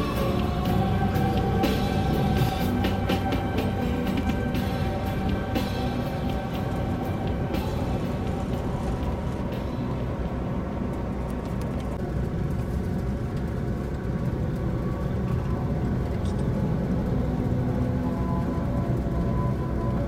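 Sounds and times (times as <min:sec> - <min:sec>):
coach engine and road rumble: 0:00.0 - 0:20.0.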